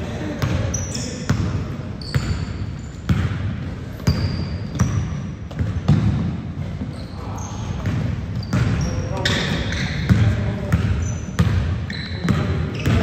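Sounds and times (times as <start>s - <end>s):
basketball bouncing on court: 0.0s - 13.0s
sneaker squeaks: 0.2s - 13.0s.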